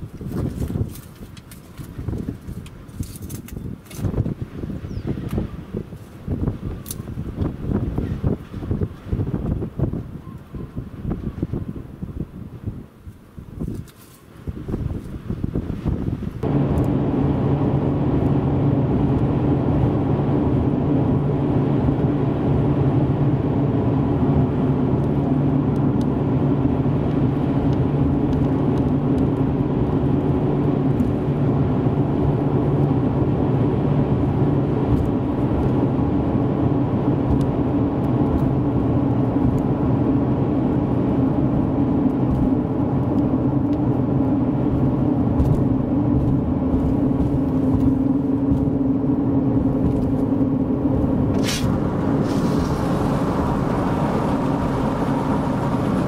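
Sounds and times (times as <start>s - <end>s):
car engine hum: 0.0s - 56.0s
road noise: 0.0s - 56.0s.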